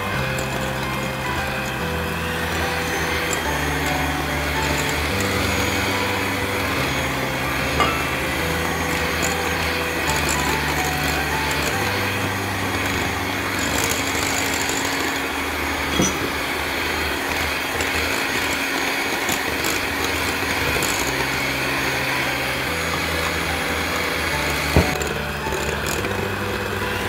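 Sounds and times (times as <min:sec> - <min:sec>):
electric hand mixer running: 0:00.0 - 0:27.0.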